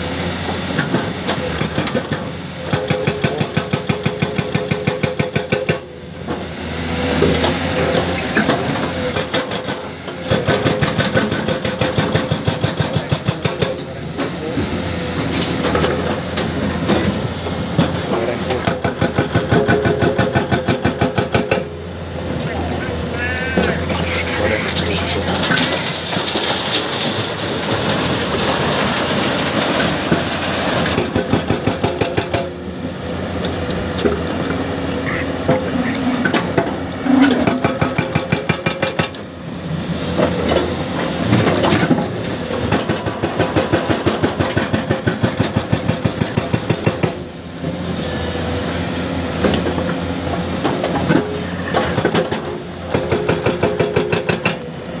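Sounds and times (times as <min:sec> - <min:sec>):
diesel engine running: 0:00.0 - 0:55.0
hydraulic breaker hammering rock: 0:00.4 - 0:32.7, 0:33.4 - 0:39.3, 0:40.1 - 0:48.4, 0:49.3 - 0:55.0.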